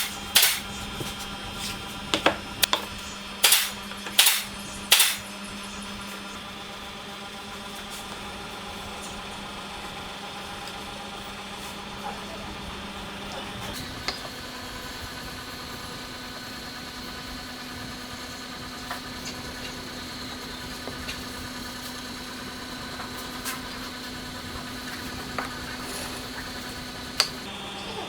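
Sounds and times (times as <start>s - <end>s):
steady motor hum: 0.0s - 28.0s.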